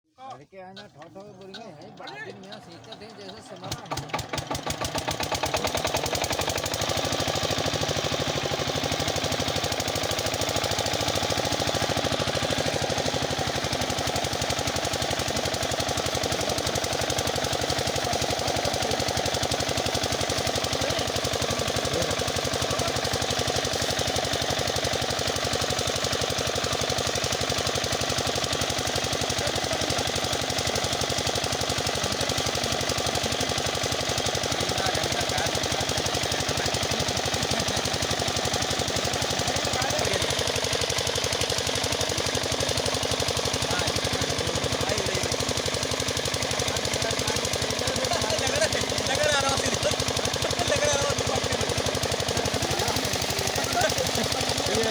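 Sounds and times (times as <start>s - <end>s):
diesel pump engine knocking: 0.7s - 54.9s.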